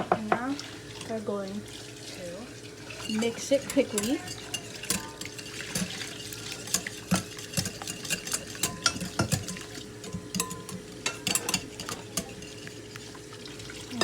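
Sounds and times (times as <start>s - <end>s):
utensil whisking in a bowl: 1.9s - 14.0s.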